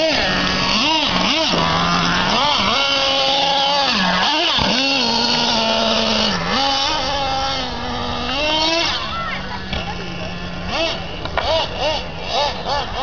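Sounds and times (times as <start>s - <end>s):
small nitro engine revving: 0.0s - 13.0s.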